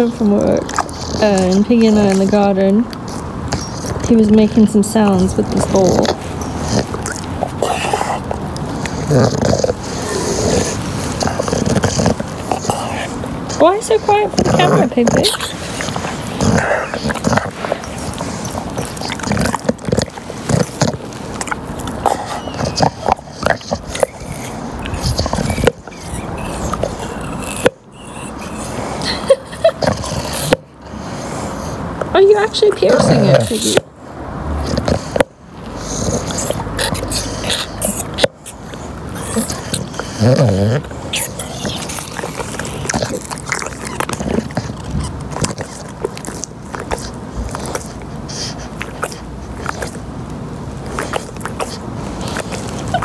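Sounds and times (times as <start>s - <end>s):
dog chewing rubber ball: 0.0s - 53.0s.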